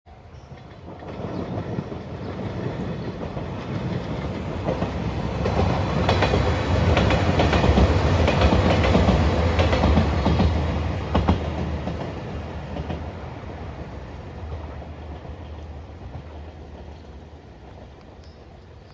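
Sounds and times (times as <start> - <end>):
train passing at speed: 0.1 - 18.9
wheels clacking over rail joints: 0.4 - 18.9.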